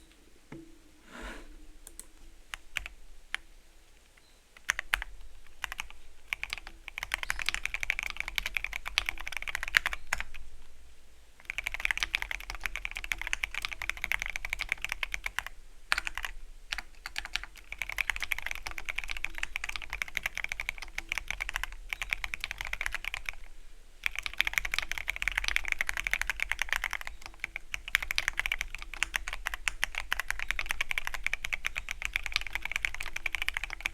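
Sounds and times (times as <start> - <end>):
mechanical keyboard typing: 4.6 - 10.4, 11.4 - 23.4, 24.0 - 33.9.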